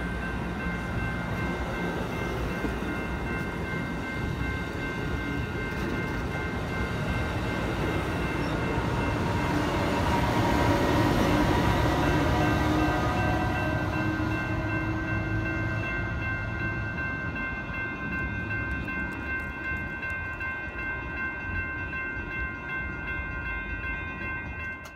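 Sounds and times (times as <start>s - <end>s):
crossing bells ringing: 0.0s - 24.9s
passenger train passing: 0.0s - 24.9s.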